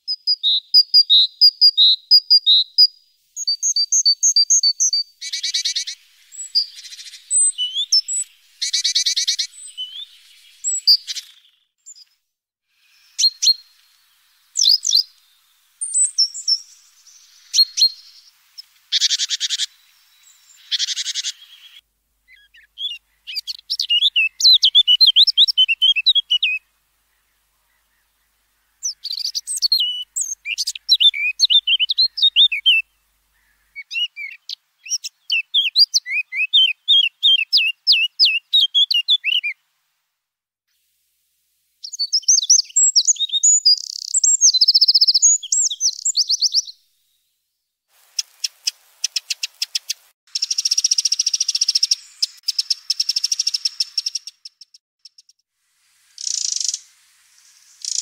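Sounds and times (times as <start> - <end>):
blackcap warbling song: 0.1 - 12.2, 12.8 - 39.6, 41.8 - 47.2, 48.0 - 58.0
great tit calling: 0.8 - 12.0, 12.8 - 39.6, 48.0 - 55.2, 56.2 - 58.0.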